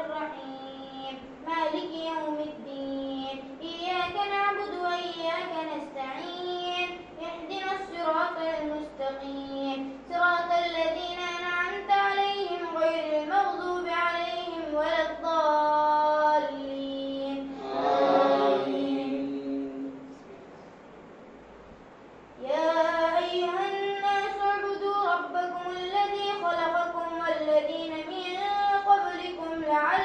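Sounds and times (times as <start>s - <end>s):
boy chanting melodically: 0.0s - 20.2s, 22.4s - 30.0s.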